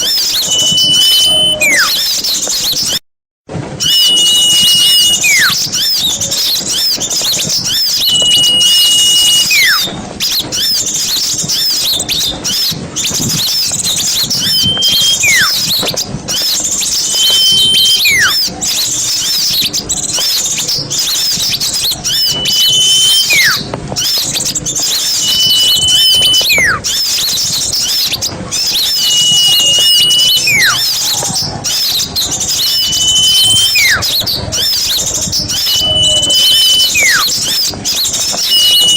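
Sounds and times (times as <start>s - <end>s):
bird whistle with falling slide: 0.0s - 3.0s, 3.7s - 38.9s
songbirds chattering: 0.0s - 3.0s, 3.8s - 38.9s.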